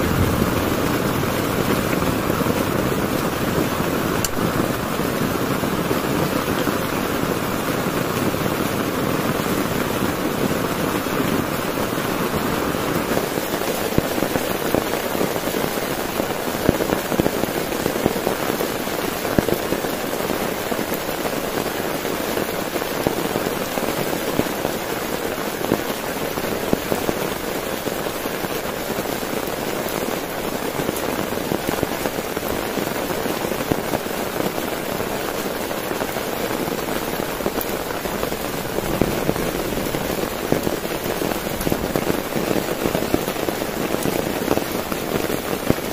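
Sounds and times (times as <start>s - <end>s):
heavy rain on a tent: 0.0s - 45.9s.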